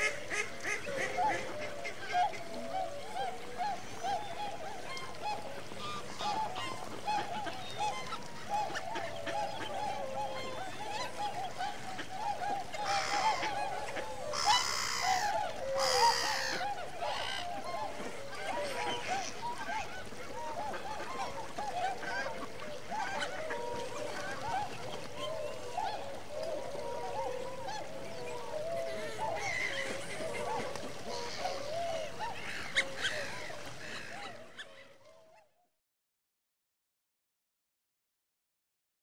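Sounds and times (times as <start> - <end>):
waterfowl flock honking: 0.0 - 35.0.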